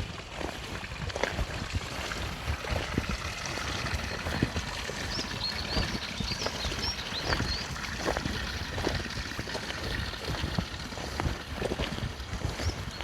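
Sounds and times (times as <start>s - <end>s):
footsteps crunching on wet track: 0.0s - 13.0s
knocks and drips: 0.0s - 13.0s.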